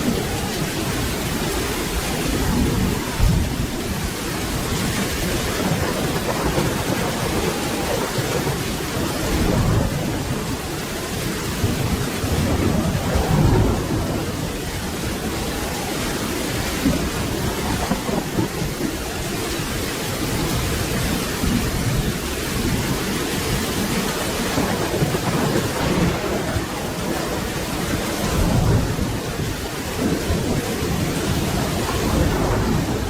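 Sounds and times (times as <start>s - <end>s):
rolling thunder: 0.0s - 33.0s
steady rain: 0.0s - 33.0s.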